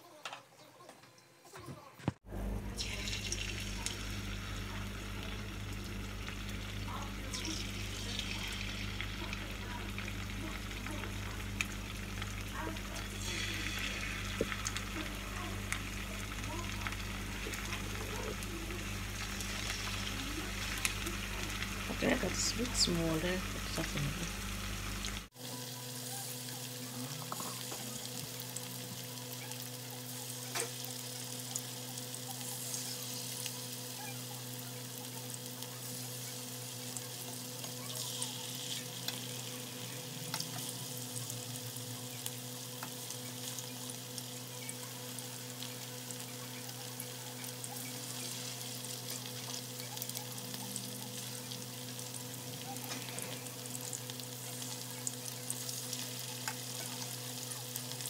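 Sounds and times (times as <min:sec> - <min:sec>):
chicken sizzling in hot oil: 0:01.5 - 0:58.0.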